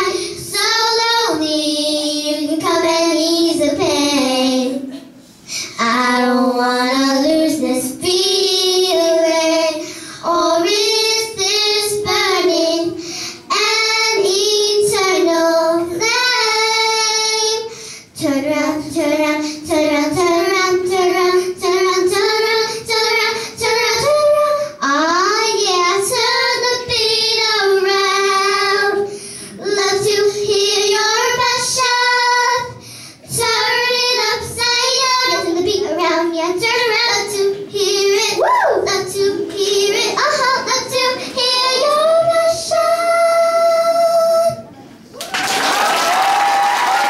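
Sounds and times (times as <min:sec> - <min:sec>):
girls singing a pop song: 0:00.0 - 0:44.8.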